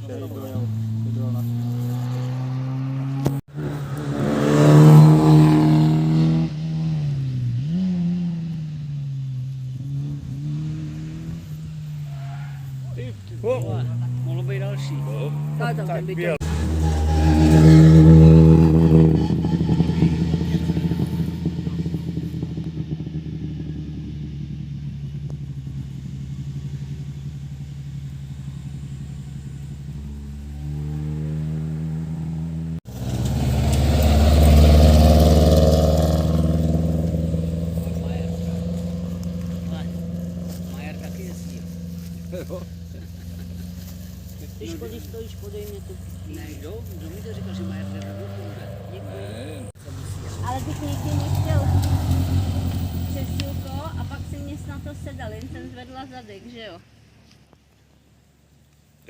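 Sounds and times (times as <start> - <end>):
rally car engine at high revs: 0.0 - 55.5.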